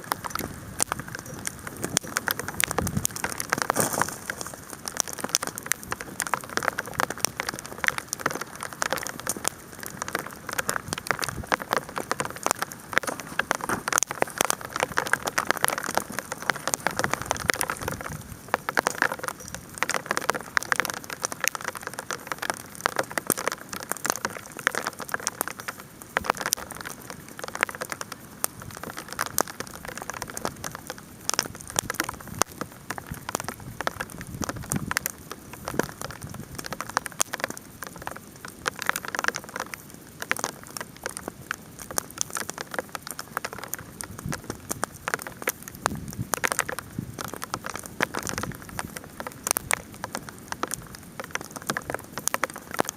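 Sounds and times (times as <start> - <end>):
campfire crackling: 0.0 - 52.9
hail pattering: 0.0 - 52.9.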